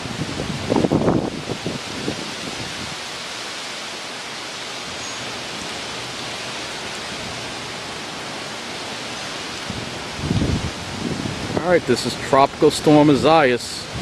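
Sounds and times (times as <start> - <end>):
storm wind and rain hiss: 0.0 - 14.0.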